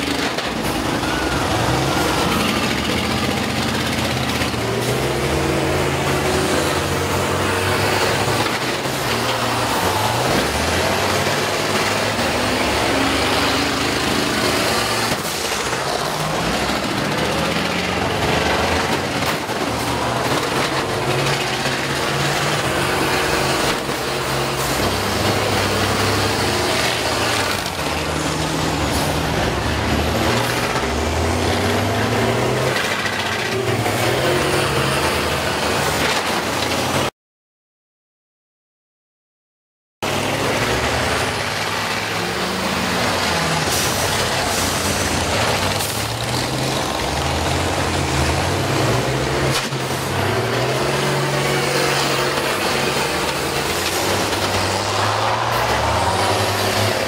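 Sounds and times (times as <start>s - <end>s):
bus engines revving: 0.0s - 37.1s, 40.0s - 57.0s.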